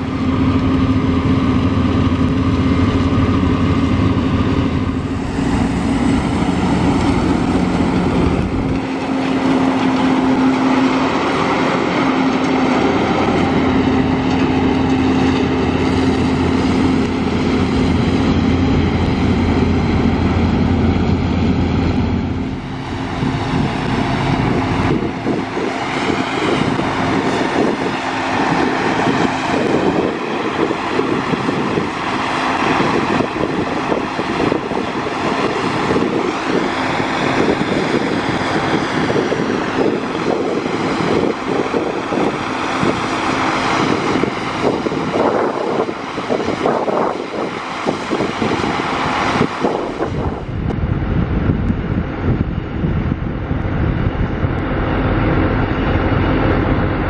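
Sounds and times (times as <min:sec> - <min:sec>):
farm machinery engine hum: 0:00.0 - 0:57.0
rushing drone with whine: 0:00.0 - 0:57.0.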